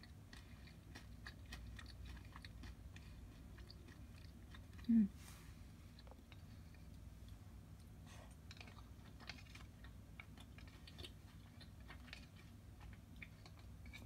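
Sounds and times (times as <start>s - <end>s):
chewing mouth clicks: 0.0s - 4.9s, 5.9s - 14.0s.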